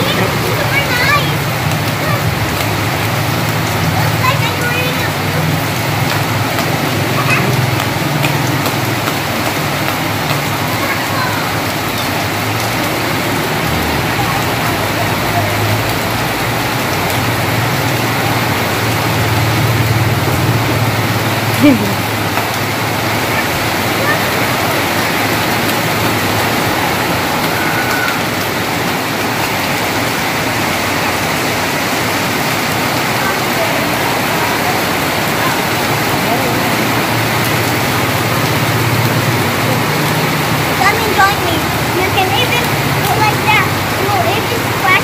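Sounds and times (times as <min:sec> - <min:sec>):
heavy rain on concrete: 0:00.0 - 0:45.0.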